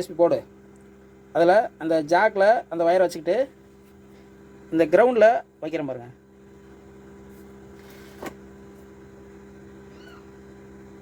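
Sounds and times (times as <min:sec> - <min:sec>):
electrical hum from speaker: 0:00.0 - 0:11.0.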